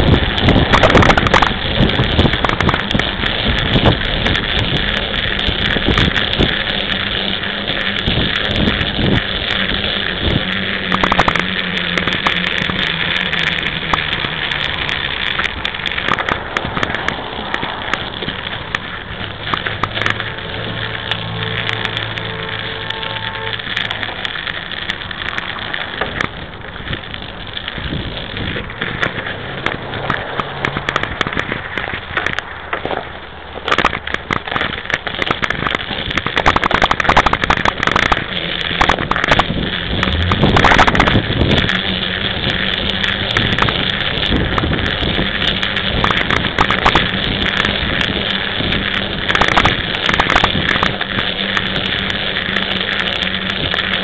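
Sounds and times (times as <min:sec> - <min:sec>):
bike clicks and rattles: 0:00.0 - 0:54.0
bike tyres crunching on snow: 0:00.0 - 0:54.0.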